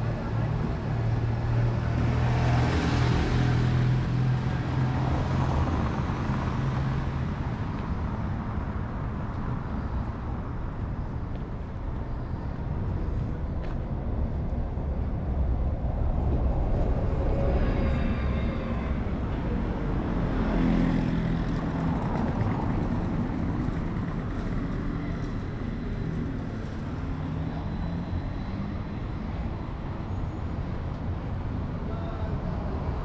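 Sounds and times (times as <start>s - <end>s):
bus and cars driving by: 0.0s - 33.0s.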